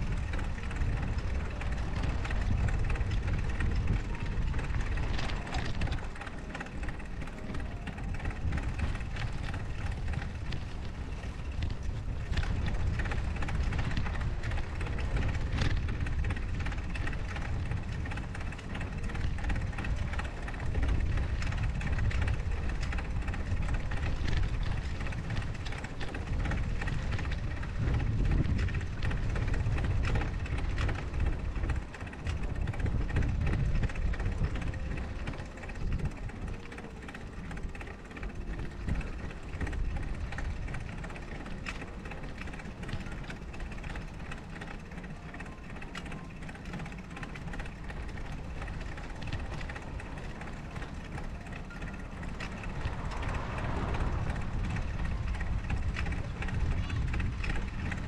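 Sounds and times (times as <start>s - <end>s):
bicycle tyres on packed snow: 0.0s - 58.0s
bike clicks and rattles: 0.0s - 58.0s
wind rumbling on microphone: 0.0s - 58.0s.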